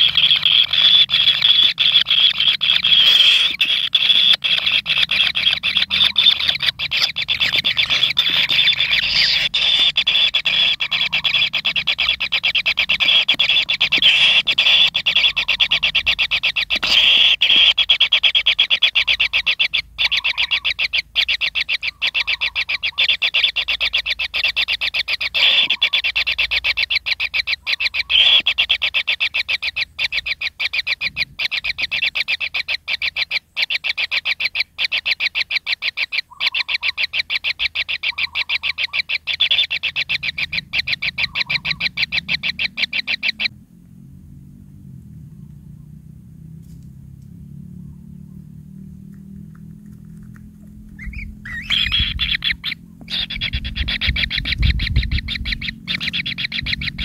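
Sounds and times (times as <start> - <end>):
nestlings churring trill: 0.0 - 43.5, 48.8 - 57.0.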